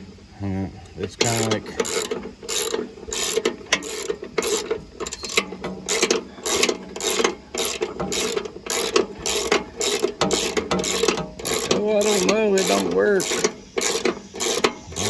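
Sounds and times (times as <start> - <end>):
ratchet wrench clicking: 1.2 - 15.0.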